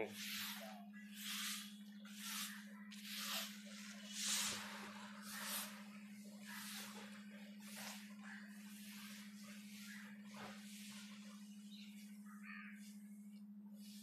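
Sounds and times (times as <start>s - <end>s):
steady low hum: 0.0s - 14.0s
broom sweeping pavement: 0.1s - 13.2s.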